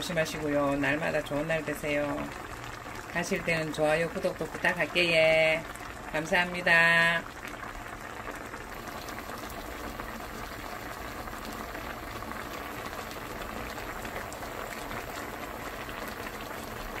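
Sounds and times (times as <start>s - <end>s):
sauce bubbling in a pan: 0.0s - 17.0s.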